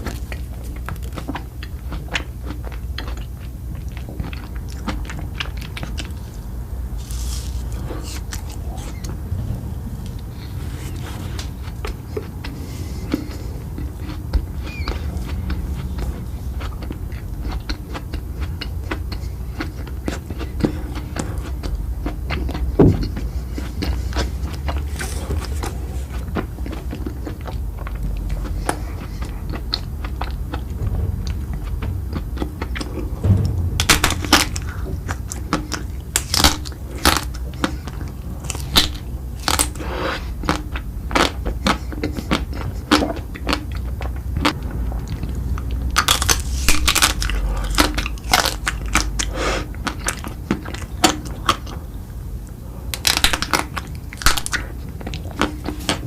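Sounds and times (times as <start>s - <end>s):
low rumble: 0.0s - 23.1s, 24.3s - 39.8s, 42.8s - 49.8s.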